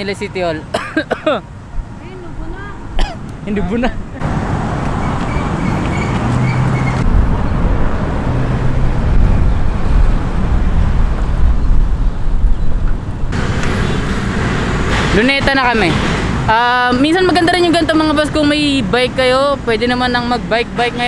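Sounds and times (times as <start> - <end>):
cars passing: 0.0 - 21.0
traffic road noise: 0.0 - 21.0.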